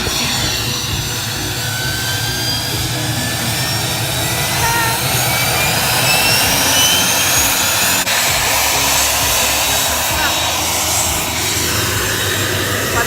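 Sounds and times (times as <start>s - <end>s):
aircraft turbine engine whine: 0.0s - 13.0s.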